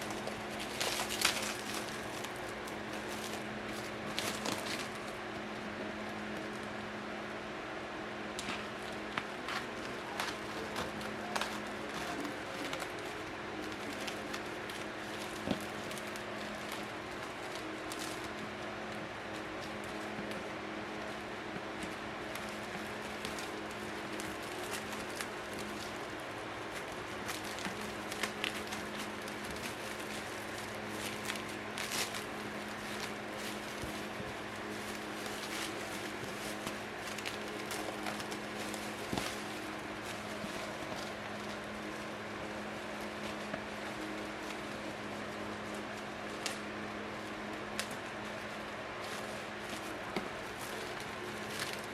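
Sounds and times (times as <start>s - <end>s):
packaging clicks and rustles: 0.0s - 5.2s, 8.4s - 51.9s
steady low hum: 0.0s - 51.9s.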